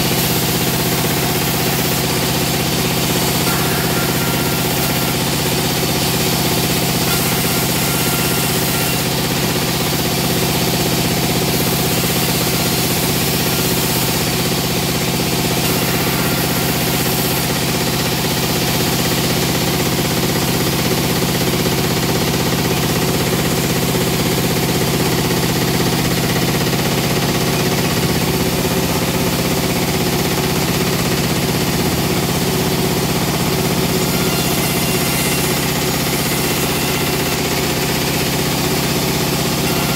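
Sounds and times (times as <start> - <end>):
machine mechanical hum: 0.0 - 39.9.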